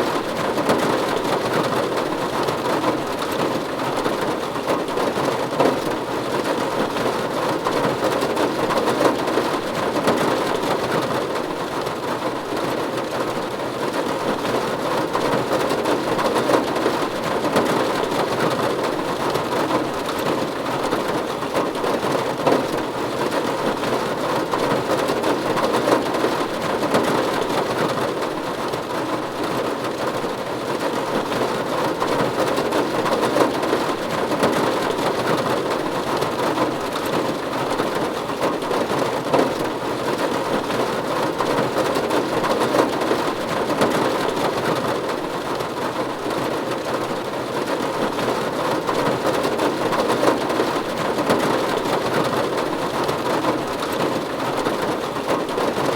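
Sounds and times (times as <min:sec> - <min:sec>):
rain on a roof: 0:00.0 - 0:55.9.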